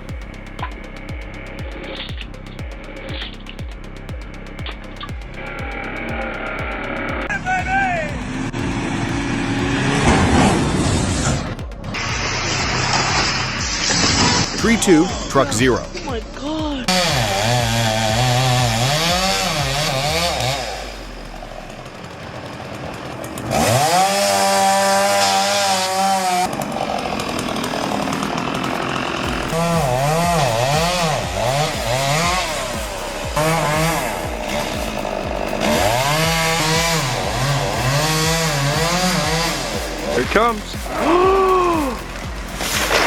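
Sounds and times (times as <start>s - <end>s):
chainsaw engine revving: 0.0s - 43.0s.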